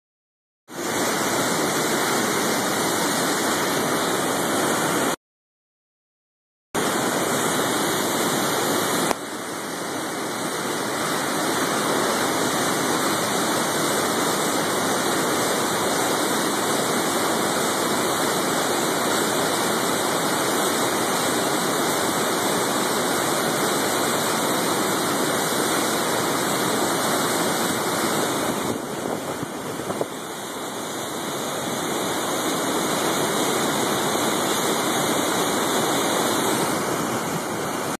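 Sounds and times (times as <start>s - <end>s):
whitewater rushing over rocks: 0.7s - 5.2s, 6.8s - 38.0s.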